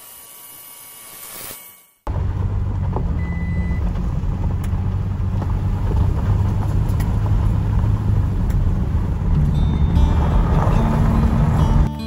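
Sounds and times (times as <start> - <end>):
car engine and tyre rumble: 2.1 - 12.0.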